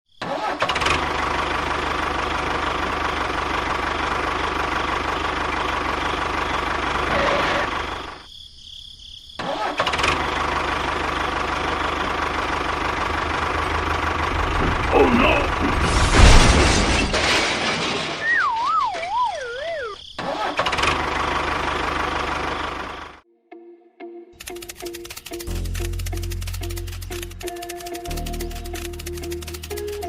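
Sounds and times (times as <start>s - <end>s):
small engine running: 0.3s - 8.3s, 9.6s - 16.3s, 19.1s - 23.2s, 24.4s - 30.0s.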